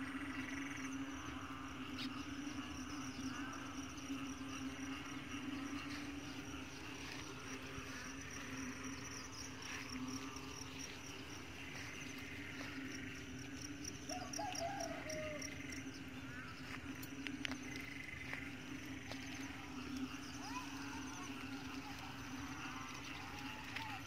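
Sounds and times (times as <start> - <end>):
insects trilling: 0.0 - 24.0
low hum: 0.0 - 24.0.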